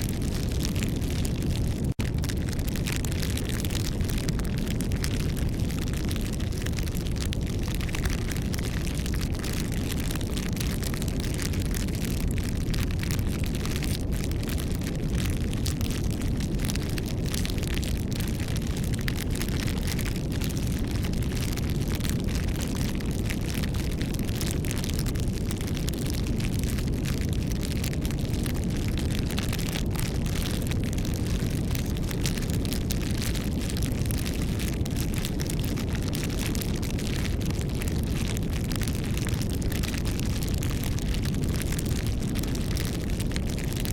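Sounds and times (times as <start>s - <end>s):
bonfire crackling and popping: 0.0s - 43.9s
low fire rumble: 0.0s - 43.9s.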